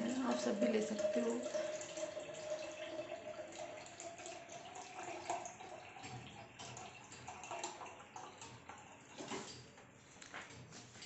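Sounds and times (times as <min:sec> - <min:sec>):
water running from a tap: 0:00.0 - 0:09.8.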